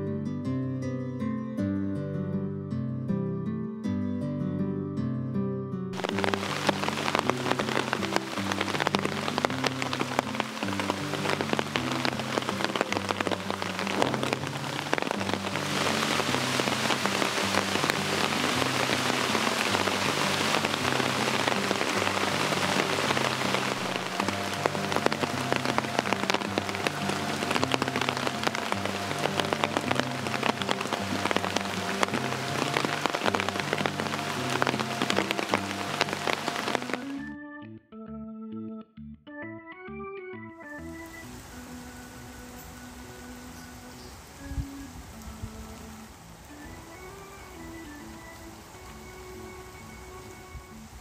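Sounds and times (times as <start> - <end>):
soft background music: 0.0 - 51.0
heavy rain on pond water: 6.0 - 37.3, 40.8 - 51.0.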